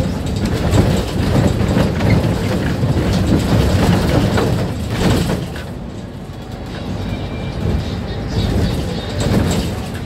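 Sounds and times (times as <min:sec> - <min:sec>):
rattles and knocks: 0:00.0 - 0:06.7, 0:07.6 - 0:10.0
bus engine and road rumble: 0:00.0 - 0:10.0.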